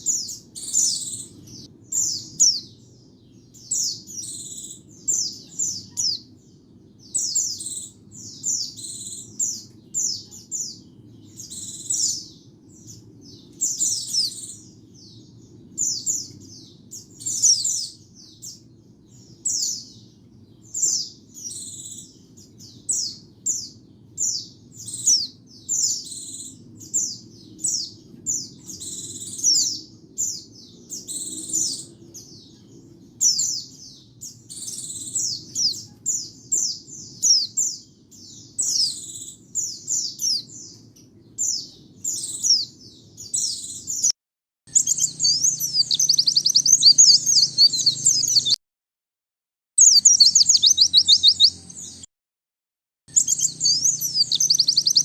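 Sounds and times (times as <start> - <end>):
small bird twittering song: 0.0 - 48.6, 49.8 - 52.1, 53.1 - 55.0.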